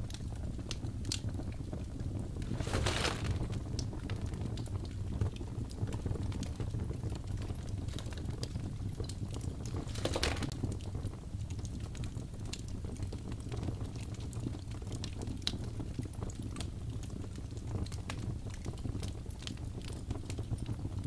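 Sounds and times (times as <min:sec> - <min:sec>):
fire crackling and popping: 0:00.0 - 0:20.8
low fire rumble: 0:00.0 - 0:21.0.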